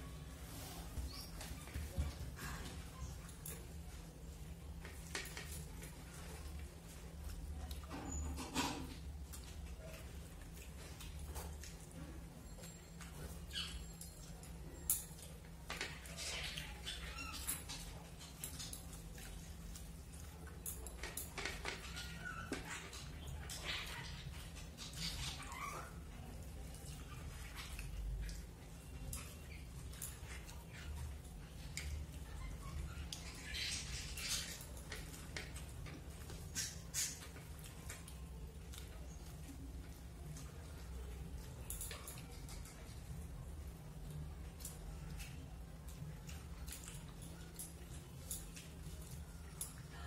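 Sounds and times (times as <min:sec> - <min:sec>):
wet chewing and lip smacks: 0:08.8 - 0:50.0.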